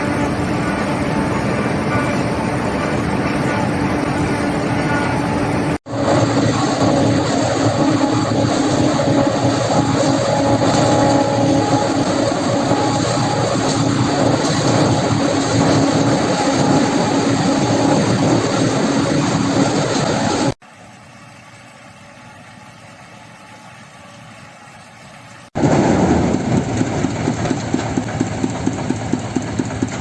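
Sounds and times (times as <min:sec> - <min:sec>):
corn harvester running: 0:00.0 - 0:22.7, 0:23.7 - 0:30.0.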